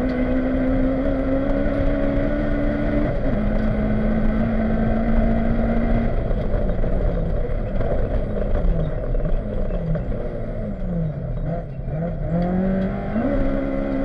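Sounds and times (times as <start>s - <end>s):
car engine revving: 0.0s - 14.0s
road and tyre noise: 0.0s - 14.0s.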